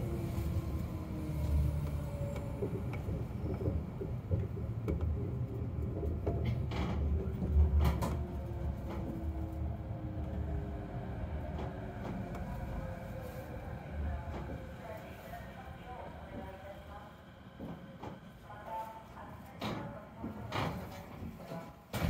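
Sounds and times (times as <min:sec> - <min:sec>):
monorail car rumble and motor whine: 0:00.0 - 0:19.6.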